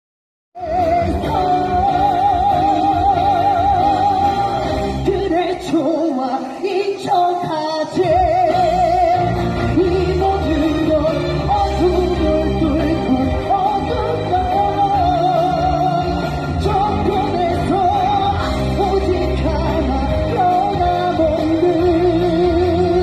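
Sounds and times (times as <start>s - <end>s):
band accompaniment: 0.6s - 23.0s
man singing ballad: 0.6s - 23.0s.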